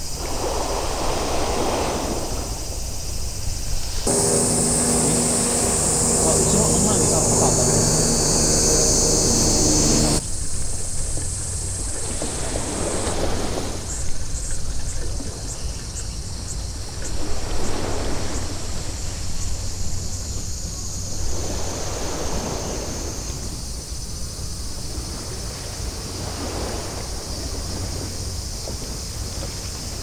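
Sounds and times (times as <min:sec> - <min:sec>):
small waves washing on shore: 0:00.0 - 0:10.2, 0:11.3 - 0:16.0, 0:16.7 - 0:30.0.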